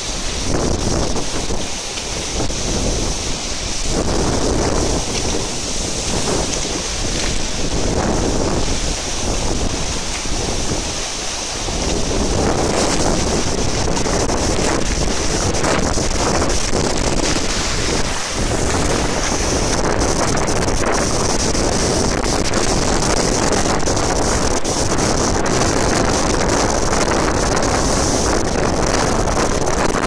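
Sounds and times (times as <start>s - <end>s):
waterfall rushing: 0.0s - 30.0s
wind buffeting microphone: 0.0s - 30.0s.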